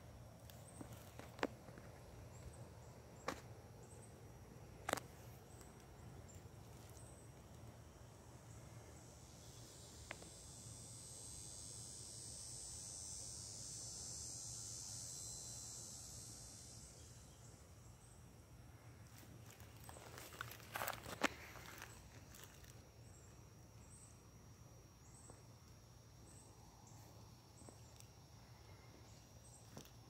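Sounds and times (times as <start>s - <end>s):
insect buzzing call: 0.0s - 30.0s.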